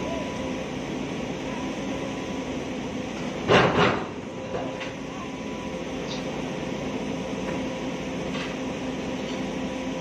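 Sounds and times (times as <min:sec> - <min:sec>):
excavator diesel engine running: 0:00.0 - 0:10.0
hydraulics whining: 0:00.0 - 0:10.0.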